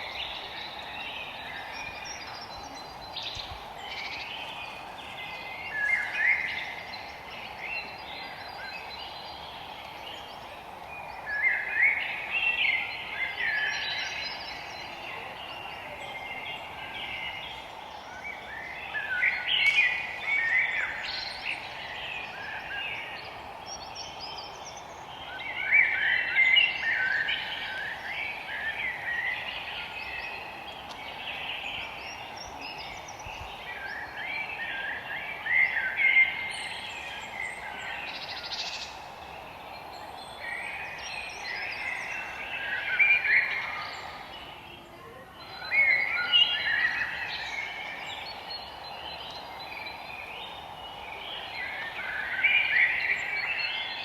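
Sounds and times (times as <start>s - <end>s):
background hiss: 0.0s - 54.0s
songbirds singing: 0.0s - 54.0s.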